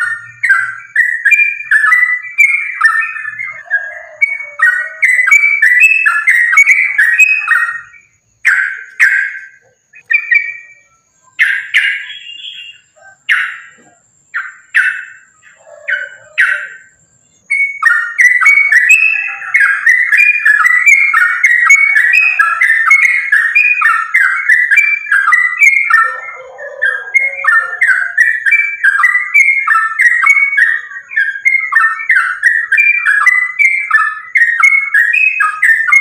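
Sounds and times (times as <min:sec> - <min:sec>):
bird singing bubbly chattering phrases: 0:00.0 - 0:36.0.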